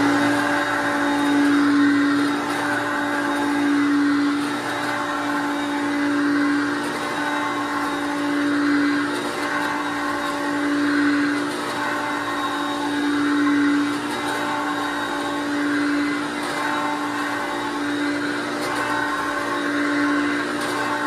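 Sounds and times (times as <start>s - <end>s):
vacuum cleaner on carpet: 0.0s - 21.0s.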